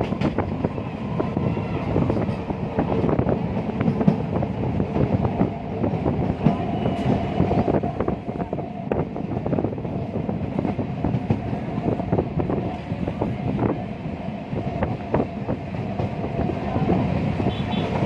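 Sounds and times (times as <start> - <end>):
train carriage rumbling: 0.0 - 18.0.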